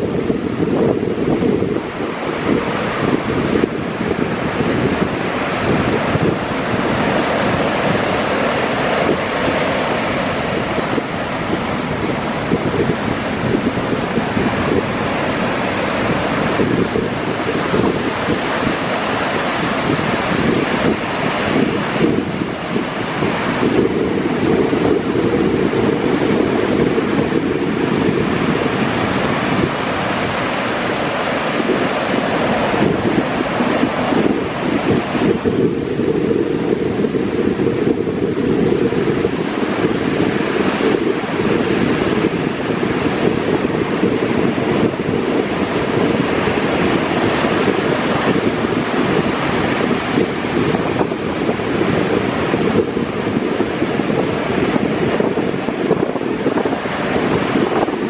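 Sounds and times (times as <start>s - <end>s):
ocean surf on beach: 0.0s - 58.0s
wind buffeting microphone: 0.0s - 58.0s.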